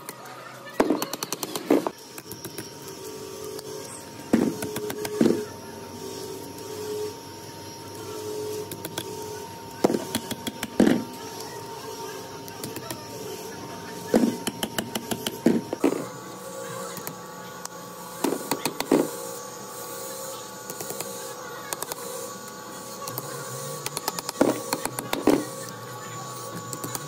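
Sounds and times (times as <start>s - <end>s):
workshop machine humming: 0.0s - 27.0s.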